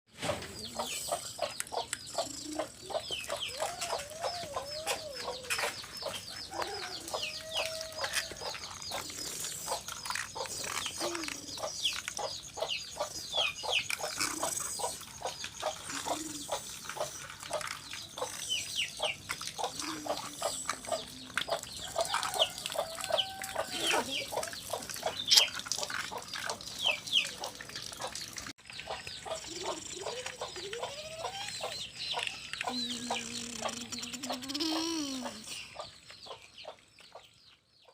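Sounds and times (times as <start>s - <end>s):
chickens clucking: 0.1s - 37.9s.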